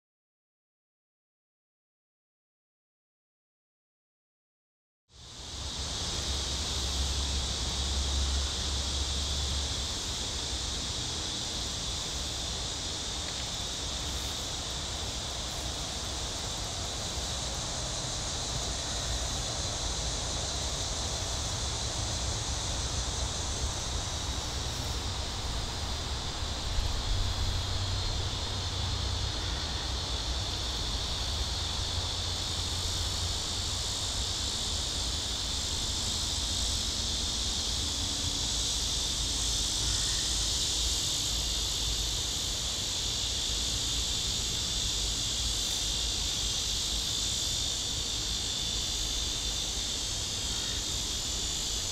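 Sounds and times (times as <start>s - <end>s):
insects buzzing: 5.2s - 51.9s.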